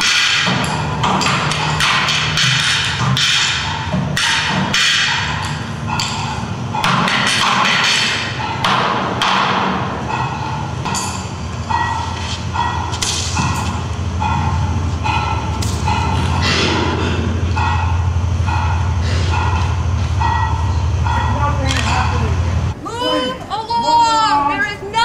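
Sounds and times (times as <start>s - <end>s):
low hum: 0.0s - 22.9s.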